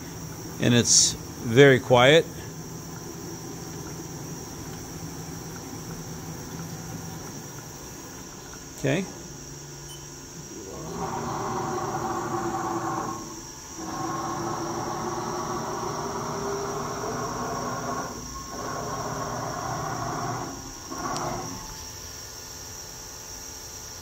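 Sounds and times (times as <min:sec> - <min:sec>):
mill axis drive whine: 0:00.0 - 0:24.0.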